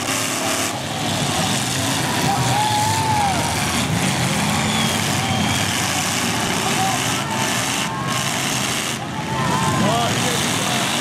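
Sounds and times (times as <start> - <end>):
car engines running hard: 0.0 - 11.0
tires squealing: 0.0 - 11.0
voices: 0.0 - 11.0.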